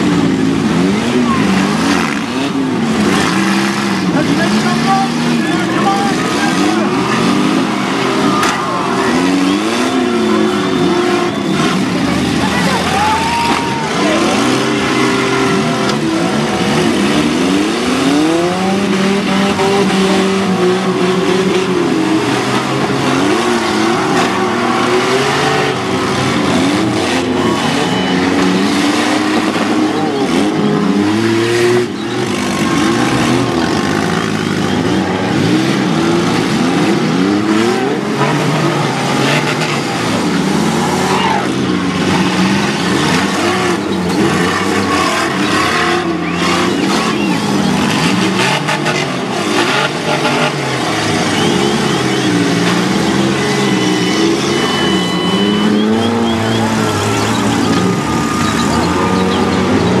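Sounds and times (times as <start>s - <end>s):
car engines revving: 0.0s - 60.0s.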